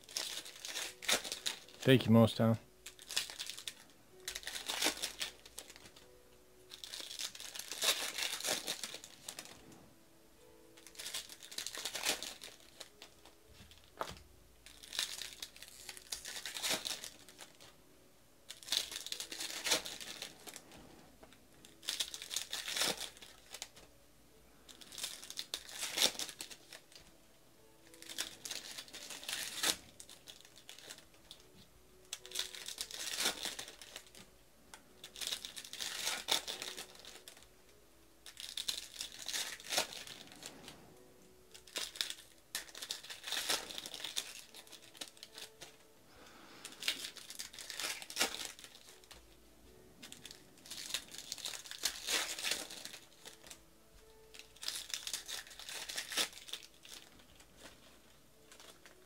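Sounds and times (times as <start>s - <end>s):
wrappers crinkling and tearing: 0.0s - 9.8s, 10.4s - 17.8s, 18.4s - 59.0s.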